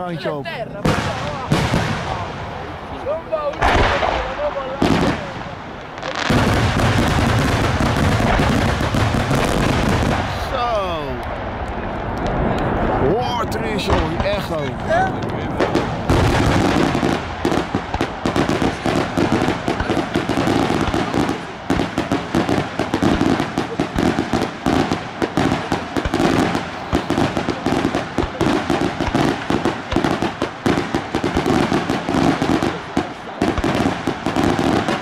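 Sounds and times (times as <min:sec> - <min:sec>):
crackling firework effects: 0:00.0 - 0:35.0
fireworks popping and banging: 0:00.7 - 0:35.0.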